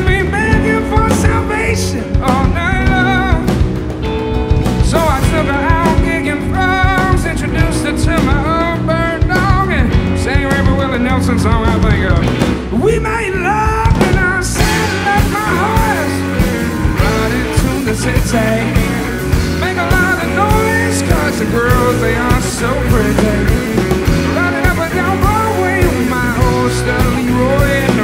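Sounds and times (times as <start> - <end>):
lead electric guitar bending notes: 0.0 - 28.0
rock band playing: 0.0 - 28.0.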